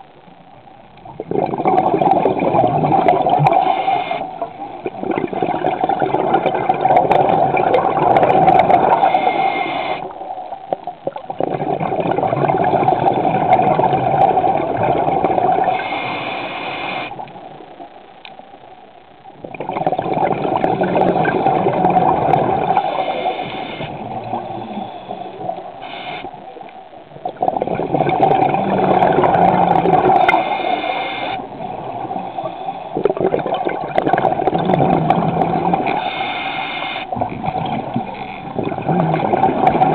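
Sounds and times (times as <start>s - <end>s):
underwater regulator bubble bursts: 1.0s - 10.2s, 10.8s - 17.4s, 19.4s - 26.3s, 27.2s - 39.9s.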